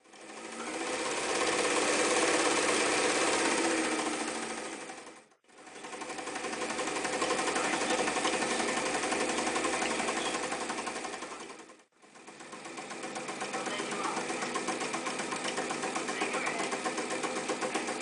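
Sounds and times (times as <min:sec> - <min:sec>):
electric sewing machine stitching: 0:00.0 - 0:18.0.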